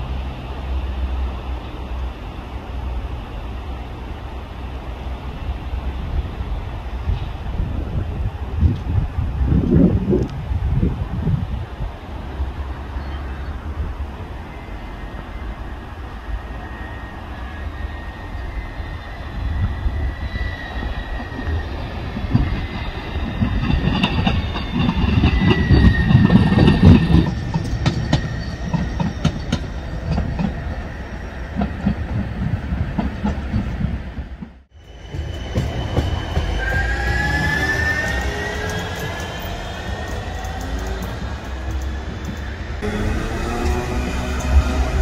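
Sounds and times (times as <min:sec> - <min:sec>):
tram wheels rumbling on rail: 0:00.0 - 0:45.0.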